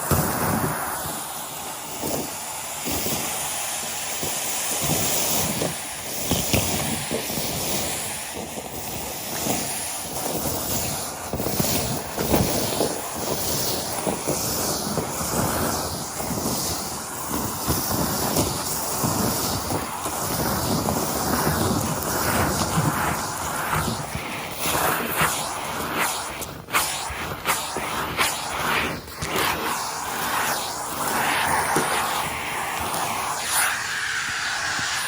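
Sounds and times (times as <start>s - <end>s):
vacuum cleaner running: 0.0s - 35.0s
debris rattling up vacuum hose: 4.2s - 35.0s.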